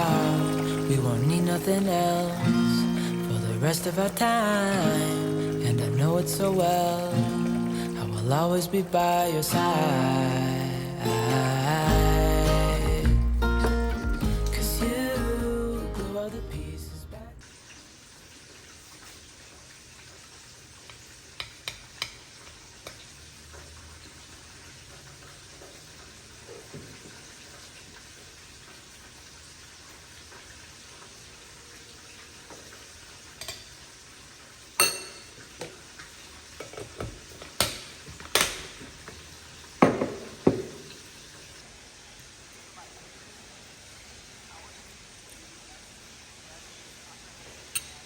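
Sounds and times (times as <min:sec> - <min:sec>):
faint steady hiss: 0:00.0 - 0:48.0.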